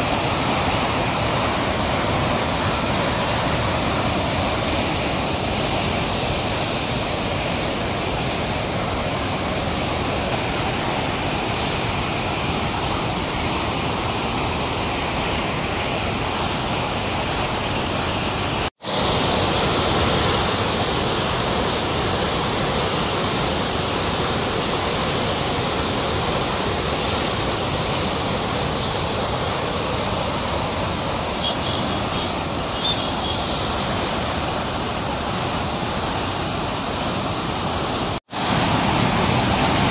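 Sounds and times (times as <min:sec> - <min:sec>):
churning water rushing: 0:00.0 - 0:39.9.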